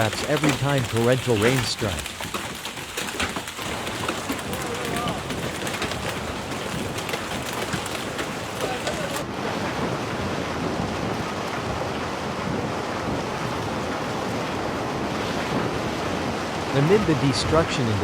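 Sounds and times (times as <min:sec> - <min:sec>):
rushing floodwater: 0:00.0 - 0:18.0.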